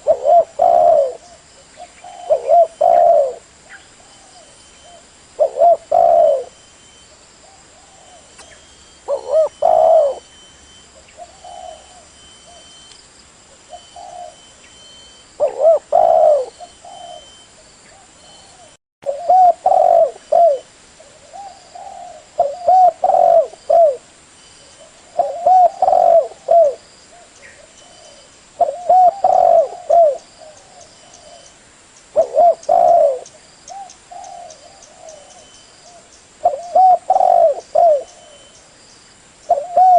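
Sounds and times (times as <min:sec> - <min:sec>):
dove cooing: 0:00.0 - 0:06.6, 0:07.4 - 0:10.3, 0:11.0 - 0:12.8, 0:13.5 - 0:14.5, 0:15.4 - 0:24.1, 0:24.7 - 0:38.6, 0:39.4 - 0:39.9.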